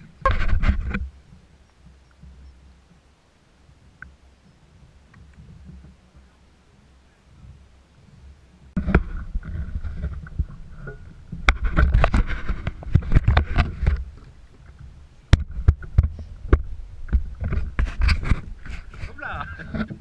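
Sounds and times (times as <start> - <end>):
knocks and bumps on a kayak: 0.0 - 3.0, 3.7 - 6.3, 7.4 - 20.0.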